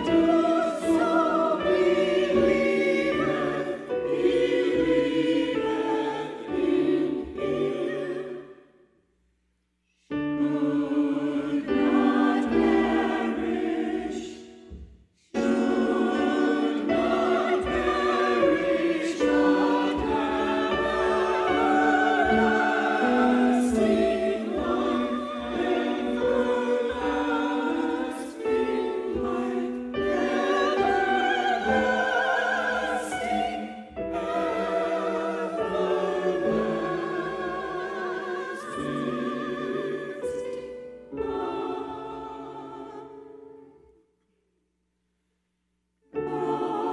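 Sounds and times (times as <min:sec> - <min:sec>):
church choir singing: 0:00.0 - 0:08.9, 0:10.1 - 0:44.0, 0:46.1 - 0:46.9.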